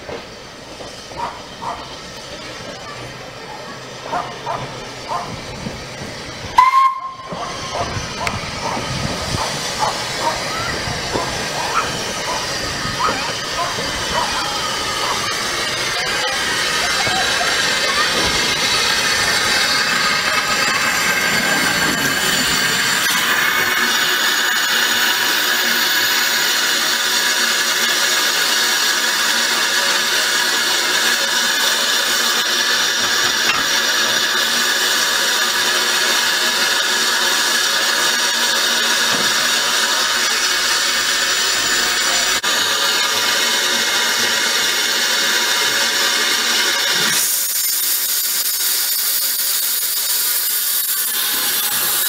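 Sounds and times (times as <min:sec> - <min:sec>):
steam locomotive blowing off steam: 0:00.0 - 0:52.0.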